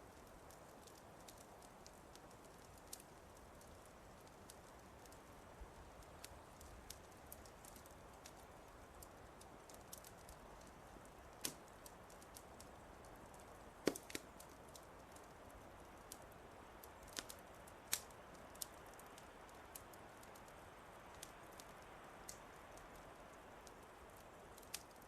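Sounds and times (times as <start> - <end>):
faint steady hiss: 0.0 - 25.0
wood fire crackling: 0.0 - 25.0.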